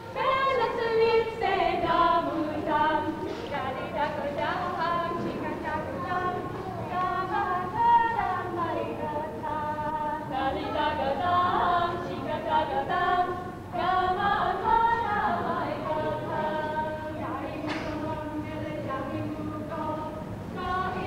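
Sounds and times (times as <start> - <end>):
group singing unaccompanied: 0.0 - 21.0.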